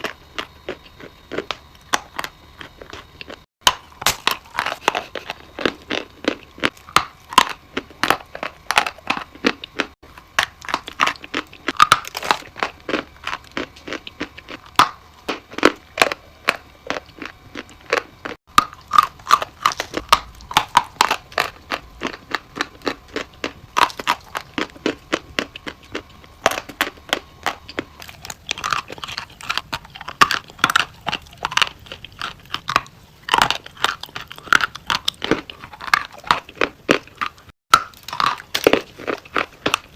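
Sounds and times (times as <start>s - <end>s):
chalk crunching and chewing: 0.0s - 39.9s.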